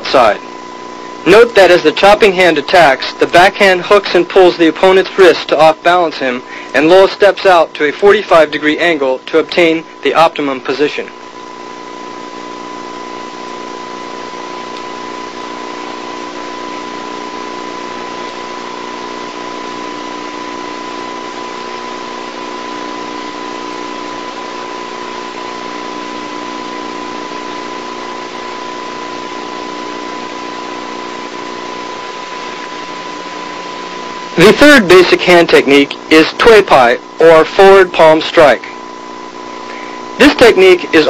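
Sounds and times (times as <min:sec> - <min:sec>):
high whine: 0:00.0 - 0:41.0.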